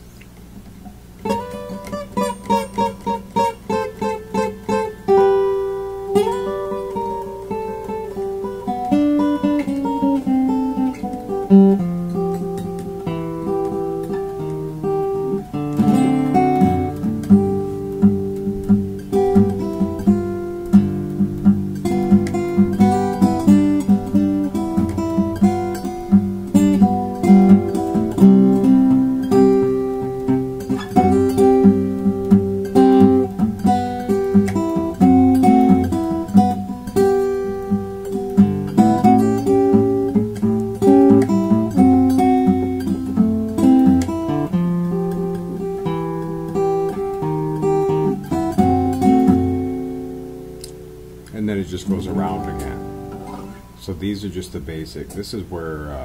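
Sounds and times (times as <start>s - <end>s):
fingerstyle acoustic guitar blues: 0.1s - 56.0s.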